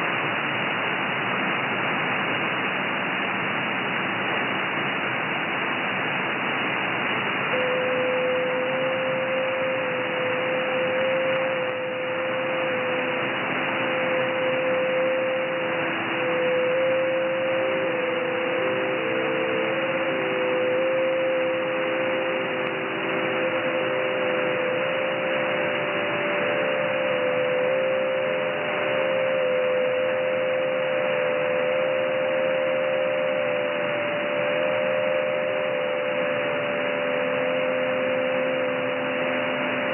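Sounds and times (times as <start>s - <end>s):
radio band noise hiss: 0.0s - 39.9s
steady higher tone: 7.0s - 39.9s
thin tones hopping pitch: 7.5s - 39.9s.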